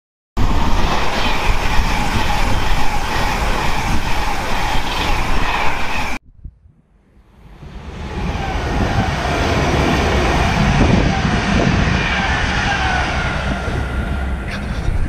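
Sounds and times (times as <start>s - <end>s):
electric train passing at speed: 0.4s - 6.2s, 7.0s - 15.0s.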